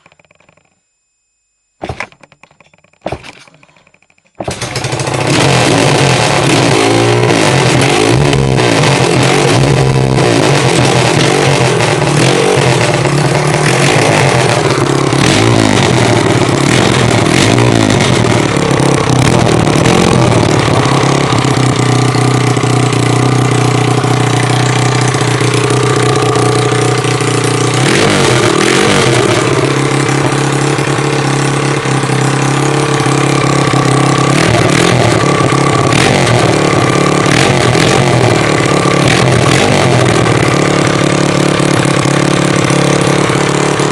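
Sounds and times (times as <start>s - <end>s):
pit bike engine revving: 4.4s - 43.9s.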